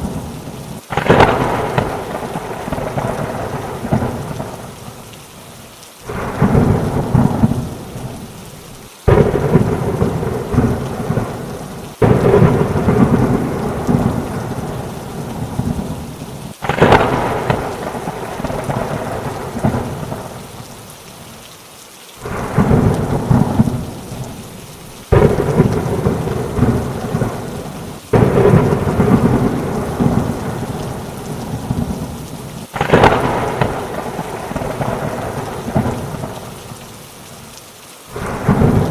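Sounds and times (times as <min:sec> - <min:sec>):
thunder rumbling: 0:00.0 - 0:05.0, 0:06.1 - 0:20.7, 0:22.2 - 0:36.8, 0:38.1 - 0:38.9
heavy rain: 0:00.0 - 0:38.9.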